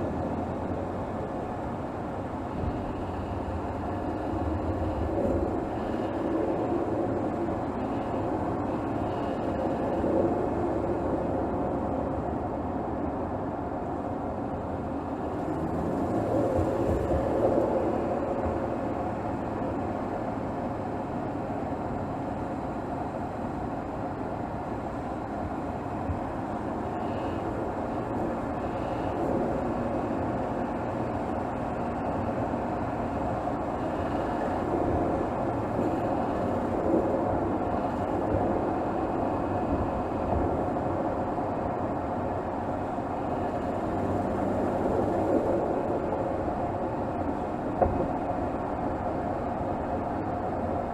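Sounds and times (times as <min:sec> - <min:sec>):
car engine running steadily: 0:00.0 - 0:50.9
road noise: 0:00.0 - 0:50.9.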